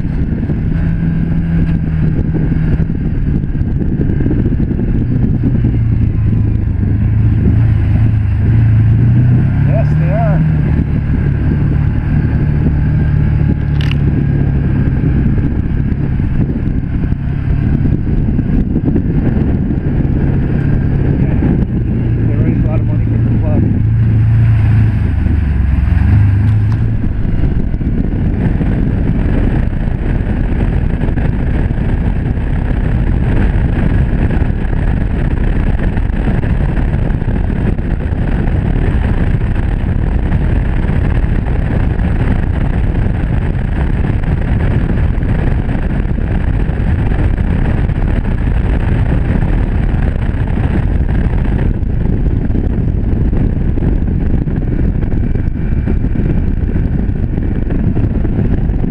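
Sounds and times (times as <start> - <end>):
vehicle engine drone: 0.0 - 58.9
wind: 0.0 - 58.9.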